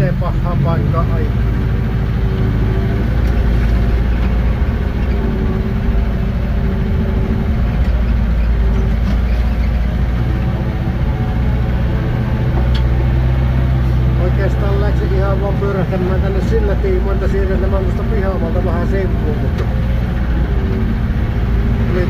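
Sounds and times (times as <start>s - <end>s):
machine engine running inside cab: 0.0s - 22.0s.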